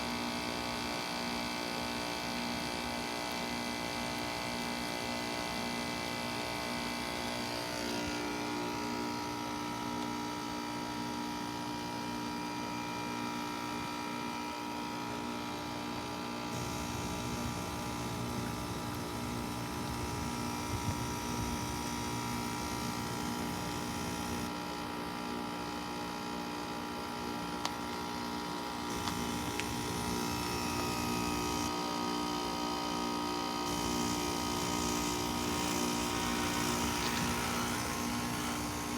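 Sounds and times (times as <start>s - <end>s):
heat pump humming and whining: 0.0s - 38.9s.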